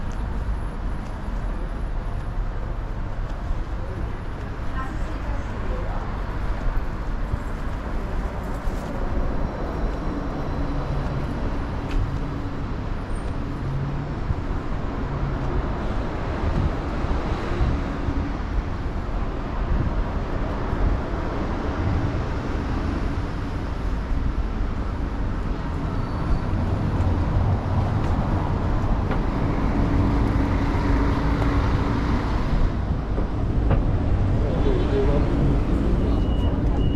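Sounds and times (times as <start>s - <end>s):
engines humming: 0.0s - 36.9s
vehicles driving past: 0.0s - 36.9s.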